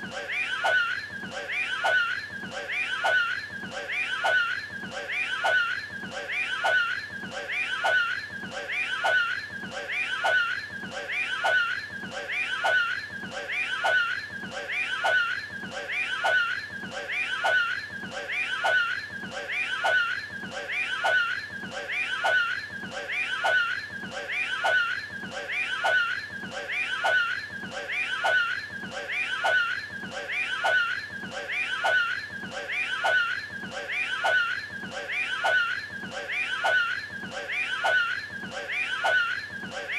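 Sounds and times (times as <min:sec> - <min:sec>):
looped cartoon voice: 0:00.0 - 0:39.9.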